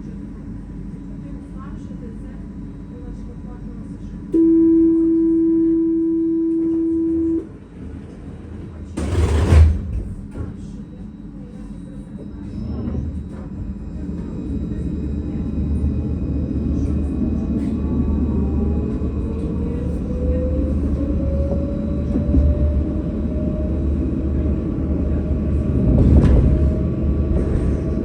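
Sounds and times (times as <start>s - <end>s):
tram rumble: 0.0s - 28.0s
tram door warning tone: 4.3s - 28.0s
tram doors shutting: 4.3s - 28.0s.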